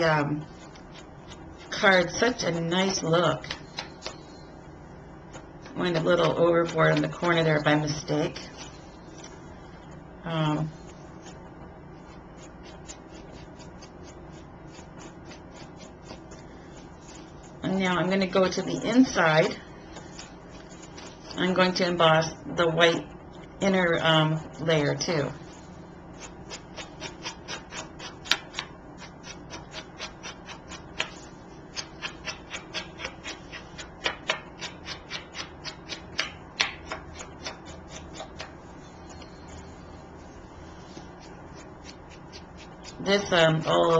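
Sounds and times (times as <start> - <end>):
ink pad scuffing on paper: 0.2 - 4.4, 5.3 - 22.0, 25.0 - 36.0, 36.8 - 43.9.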